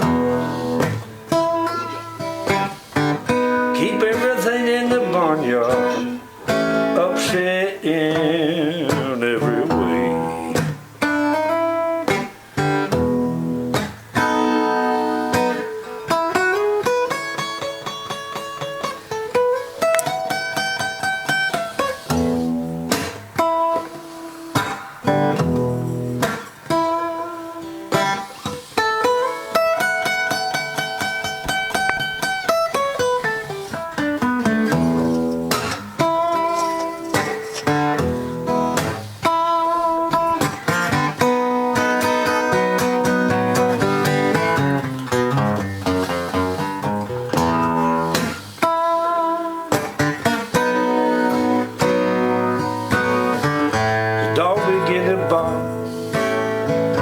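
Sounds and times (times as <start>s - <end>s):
blues guitar with slides: 0.0s - 57.0s.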